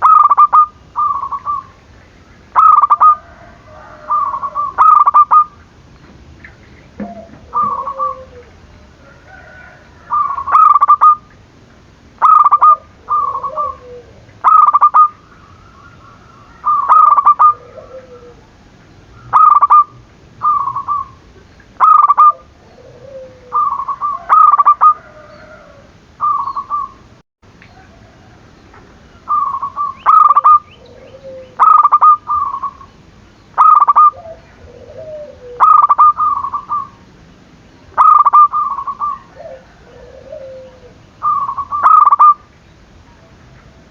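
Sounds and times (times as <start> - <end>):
dove cooing: 0.0 - 1.8, 2.5 - 5.6, 6.5 - 11.3, 12.2 - 27.1, 29.1 - 33.0, 33.6 - 37.1, 38.0 - 42.5.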